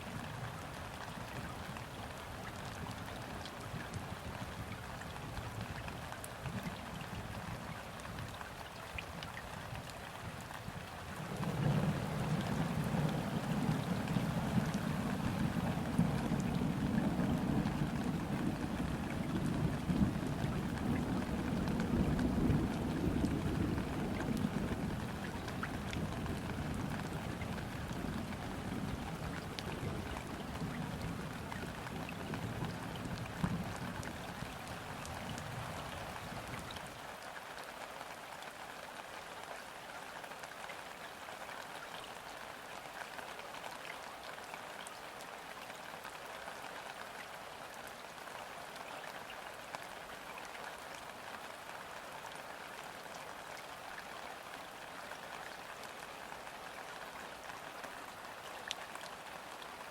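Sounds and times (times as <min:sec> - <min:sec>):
rain falling on a river: 0:00.0 - 0:59.9.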